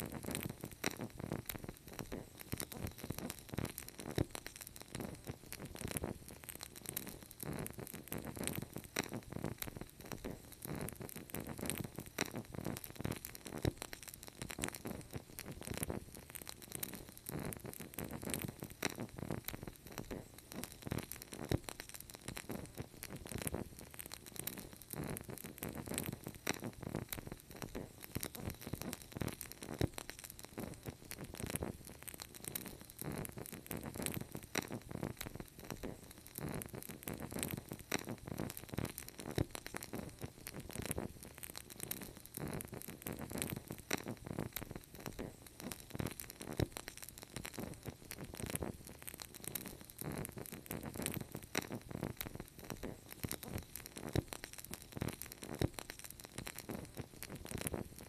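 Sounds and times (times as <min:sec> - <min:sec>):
wood fire crackling: 0:00.0 - 0:58.0
rushing of flames: 0:10.0 - 0:58.0.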